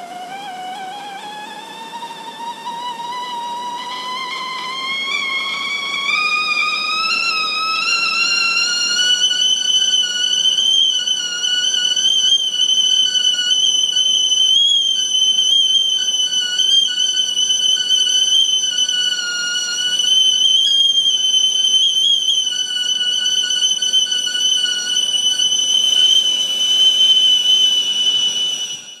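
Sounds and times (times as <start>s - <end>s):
kettle whistling: 0.0s - 29.0s.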